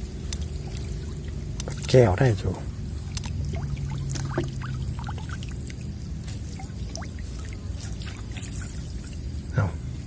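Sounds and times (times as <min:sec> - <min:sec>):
floodwater trickling and pouring: 0:00.0 - 0:09.5
low steady hum: 0:00.0 - 0:10.0
small splashes and drips: 0:00.1 - 0:02.4, 0:03.0 - 0:09.6.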